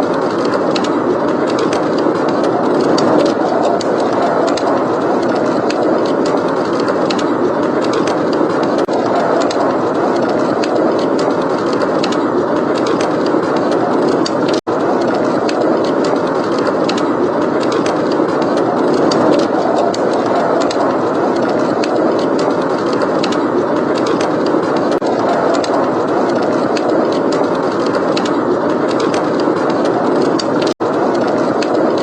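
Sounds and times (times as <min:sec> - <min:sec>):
blizzard wind: 0:00.0 - 0:32.0
fireplace crackling: 0:00.8 - 0:32.0.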